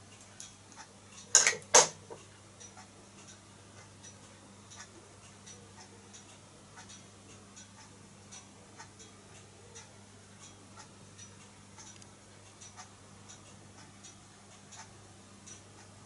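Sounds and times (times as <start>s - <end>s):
steady low hum: 0.0s - 16.0s
faint light ticks: 2.2s - 16.0s.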